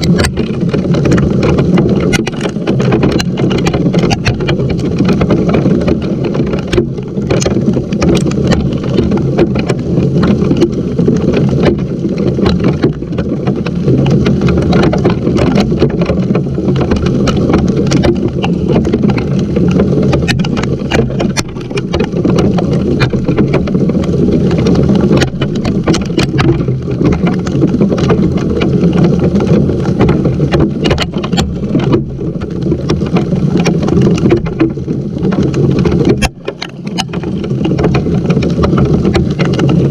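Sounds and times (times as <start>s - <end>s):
hail and rain pelting: 0.0s - 39.9s
hailstones clicking: 0.0s - 39.9s.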